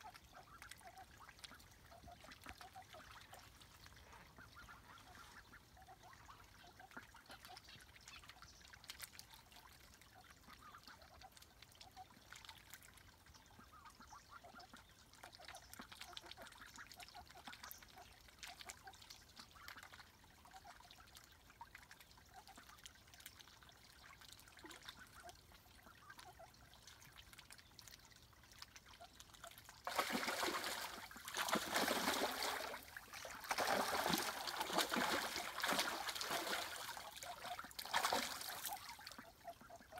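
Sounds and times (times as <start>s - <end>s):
duck splashing water: 0.0s - 39.9s
ducks dabbling in water: 0.0s - 39.9s.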